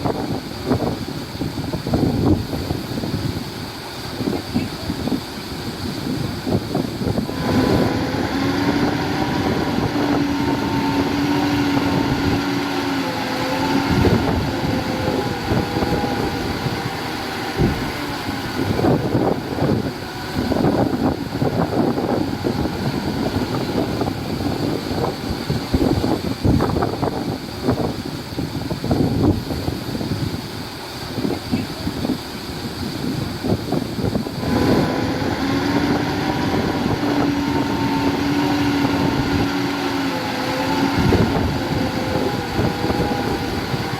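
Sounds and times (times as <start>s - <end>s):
heavy machinery diesel engines: 0.0s - 43.9s
wind buffeting microphone: 0.0s - 43.9s.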